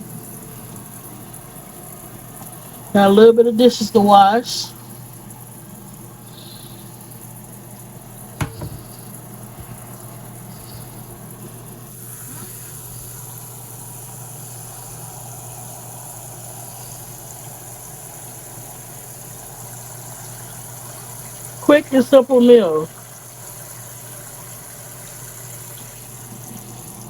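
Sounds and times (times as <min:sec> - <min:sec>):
tap running water: 0:00.0 - 0:04.1, 0:04.8 - 0:27.0.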